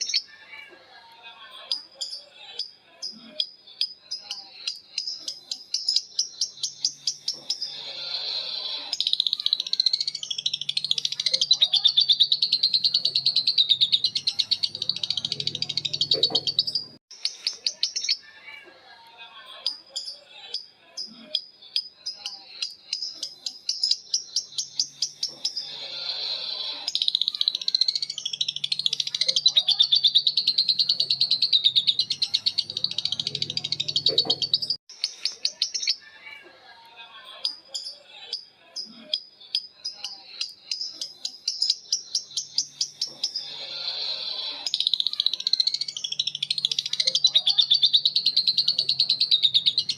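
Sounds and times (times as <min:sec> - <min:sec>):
lovebirds chirping: 0:00.0 - 0:18.6, 0:19.6 - 0:36.4, 0:37.3 - 0:49.9.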